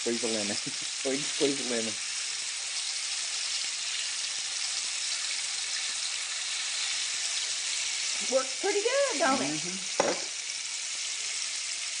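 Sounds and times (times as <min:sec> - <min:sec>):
fish sizzling in a skillet: 0:00.0 - 0:12.0.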